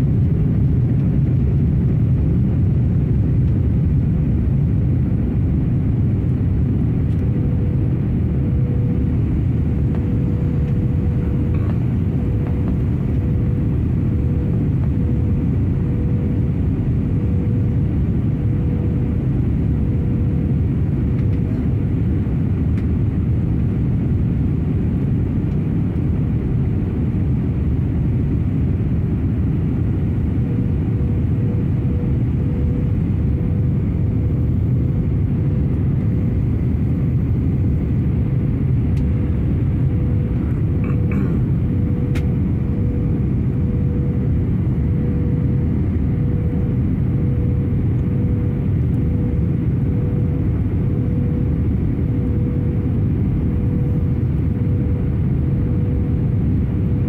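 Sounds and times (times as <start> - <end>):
aircraft engine and airflow rumble: 0.0 - 57.0
faint steady hum: 0.0 - 57.0.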